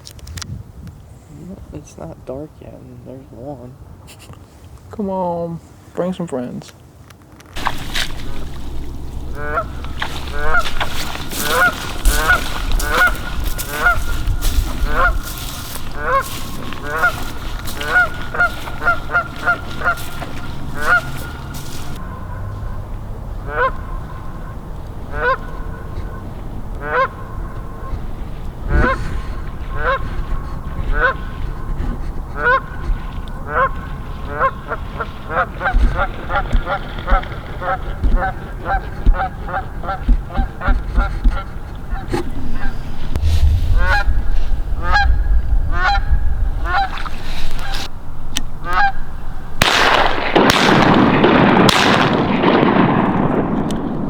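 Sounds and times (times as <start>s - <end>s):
goose honking: 7.6s - 52.8s.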